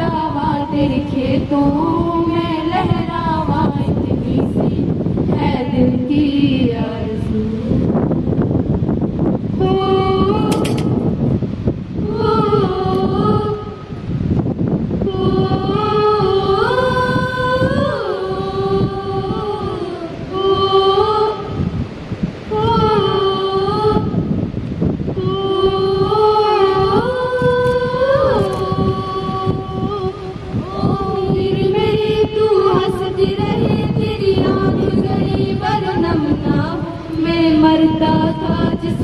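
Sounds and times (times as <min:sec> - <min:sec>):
girls singing wordless melody: 0:00.0 - 0:39.0.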